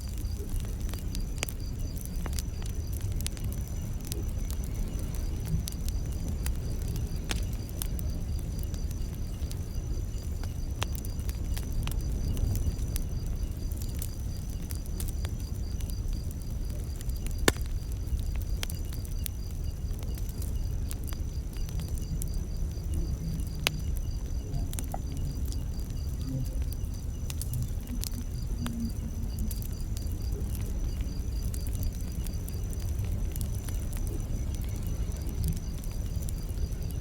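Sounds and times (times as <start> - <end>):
campfire crackling: 0.0 - 37.0
crickets chirping: 0.0 - 37.0
fire popping: 0.0 - 37.0
low flame rumble: 0.0 - 37.0.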